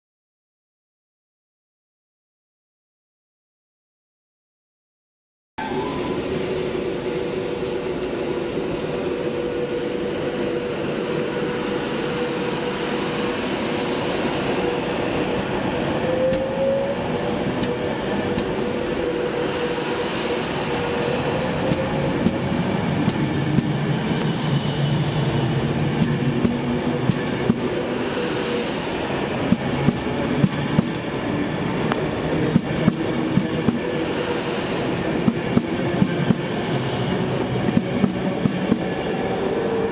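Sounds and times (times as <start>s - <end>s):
electric train whine: 5.6s - 39.9s
wheels rumbling on rail: 5.6s - 39.9s.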